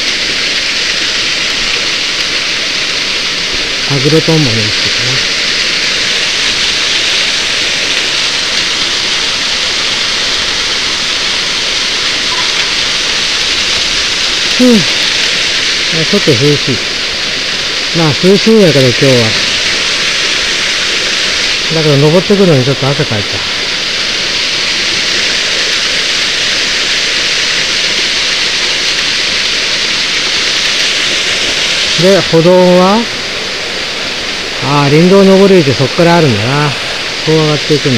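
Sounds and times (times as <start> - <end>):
small waterfall rushing: 0.0 - 37.9.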